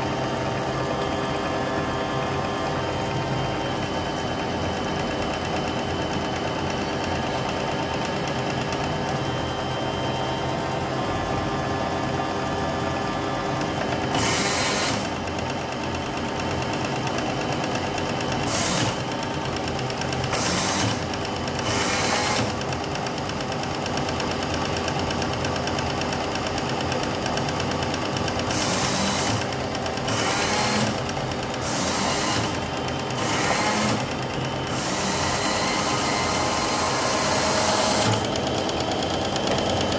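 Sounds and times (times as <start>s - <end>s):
baking machine whirring: 0.0s - 39.9s.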